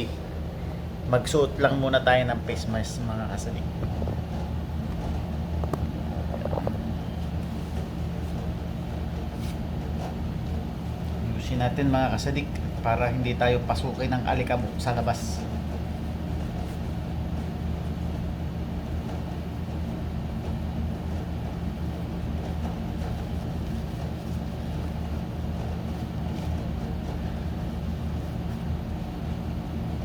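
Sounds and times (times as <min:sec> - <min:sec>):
low droning machine hum: 0:00.0 - 0:30.0.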